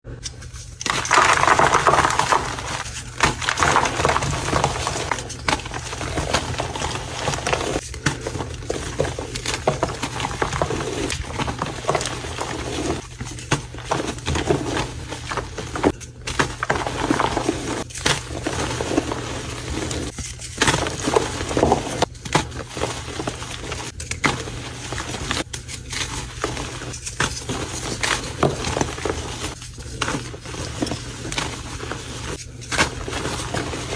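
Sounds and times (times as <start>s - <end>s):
concrete mixing churn: 0.9s - 33.9s.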